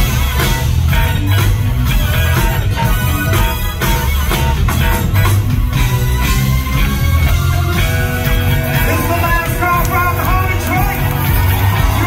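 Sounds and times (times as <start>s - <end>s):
live funk band: 0.0s - 12.0s.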